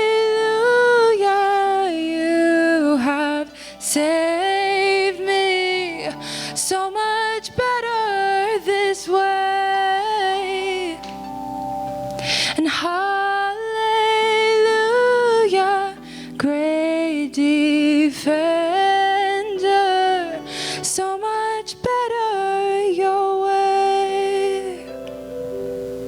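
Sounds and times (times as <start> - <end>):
soft sustained instrumental backing: 0.0 - 26.0.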